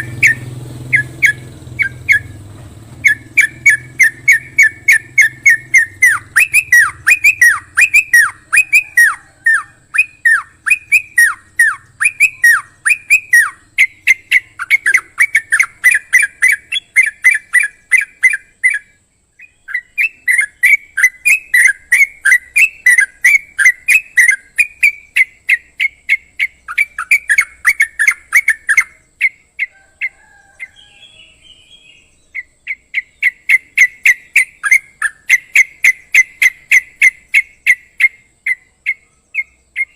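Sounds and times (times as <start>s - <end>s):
bird whistling calls: 0.0s - 39.9s
soft bird calls: 0.0s - 39.9s.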